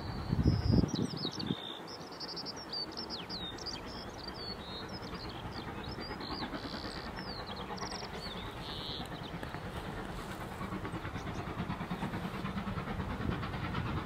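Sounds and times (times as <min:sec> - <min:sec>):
songbirds chirping: 0:00.0 - 0:13.2
distant steam locomotive rumble: 0:00.0 - 0:14.0.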